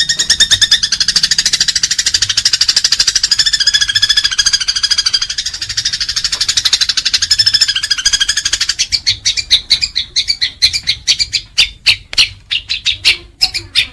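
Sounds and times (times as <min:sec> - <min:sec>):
sparrows chirping: 0:00.0 - 0:13.9.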